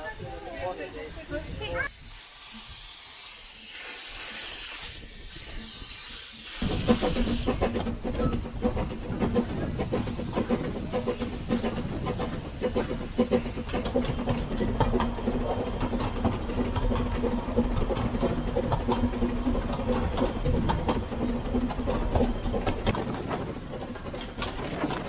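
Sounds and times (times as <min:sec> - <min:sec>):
steam hissing: 0:00.0 - 0:22.8
train wheels clicking on track: 0:01.8 - 0:25.0.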